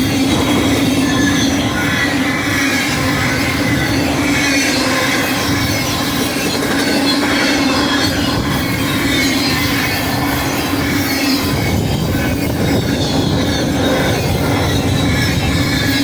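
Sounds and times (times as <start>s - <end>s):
freight train wheels rumbling: 0.0s - 16.0s
high whine: 0.0s - 16.0s.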